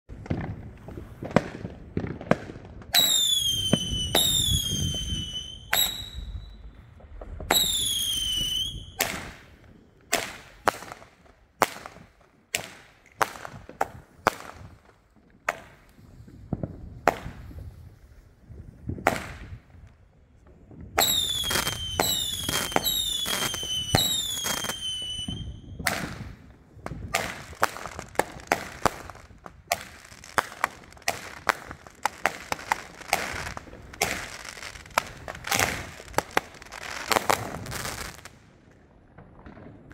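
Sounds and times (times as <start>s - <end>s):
whistling fireworks: 0.1s - 14.8s, 15.5s - 19.8s, 20.8s - 38.5s
fireworks bangs and cracks: 0.1s - 39.9s.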